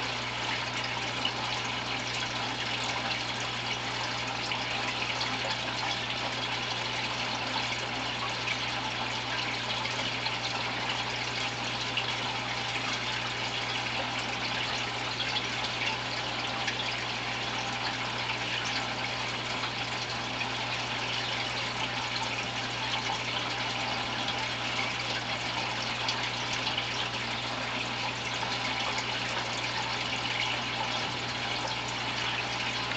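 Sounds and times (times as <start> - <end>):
aquarium filter water trickling: 0.0 - 32.9.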